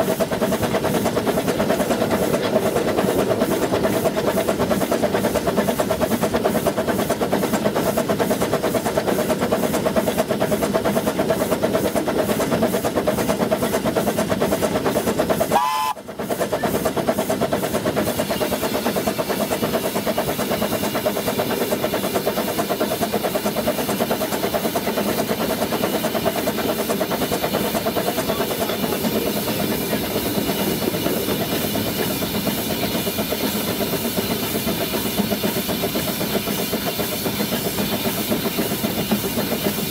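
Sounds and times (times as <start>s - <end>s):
steam hiss: 0.0s - 39.9s
steam locomotive exhaust beat: 0.0s - 39.9s.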